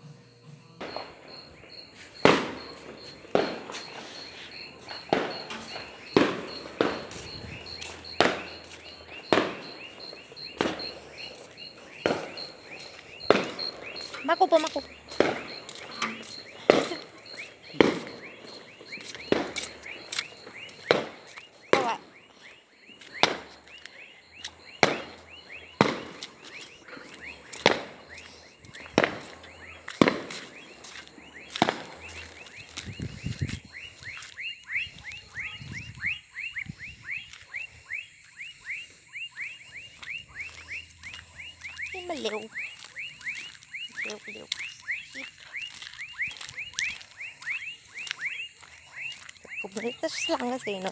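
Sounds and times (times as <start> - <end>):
frog chorus chirping: 0.0 - 50.9
footsteps: 0.8 - 50.9.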